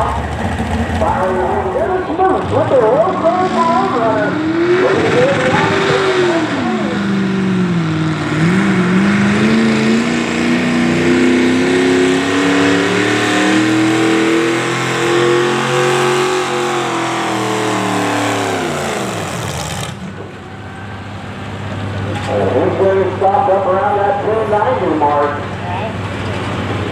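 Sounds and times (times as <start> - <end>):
tractor engine under full load: 0.0 - 26.9.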